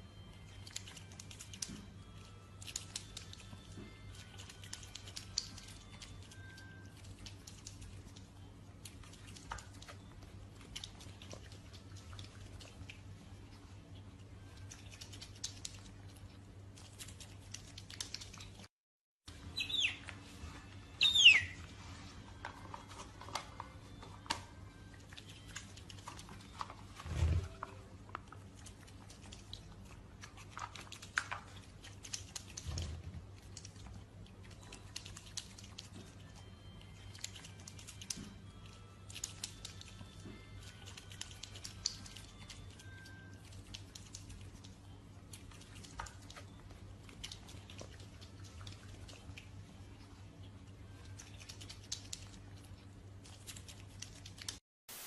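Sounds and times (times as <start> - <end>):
otter chewing: 0.0 - 18.7, 19.3 - 54.6
soft low hum: 0.0 - 18.7, 19.3 - 55.0.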